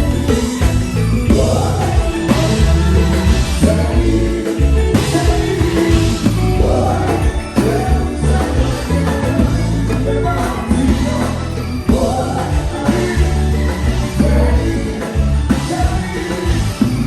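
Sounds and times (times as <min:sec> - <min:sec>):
band music: 0:00.0 - 0:17.0
drums: 0:00.0 - 0:17.0
heavy bass guitar line: 0:00.0 - 0:17.0
person singing: 0:00.0 - 0:17.0.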